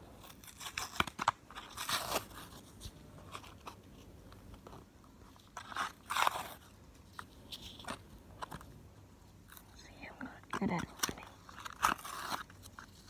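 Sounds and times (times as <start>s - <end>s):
plastic and card crinkling and tearing: 0.0s - 13.0s.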